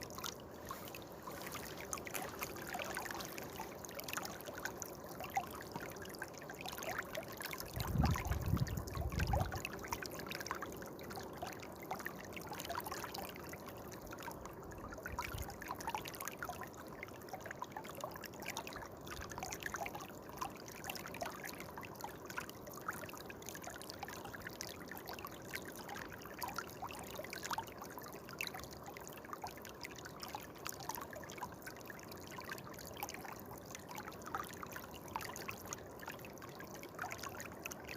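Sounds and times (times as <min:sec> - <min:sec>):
water trickling and splashing: 0:00.0 - 0:37.9.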